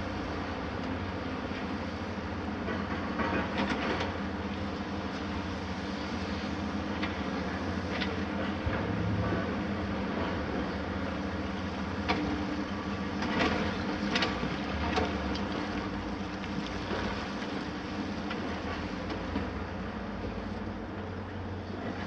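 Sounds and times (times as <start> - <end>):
excavator engines humming: 0.0 - 22.0.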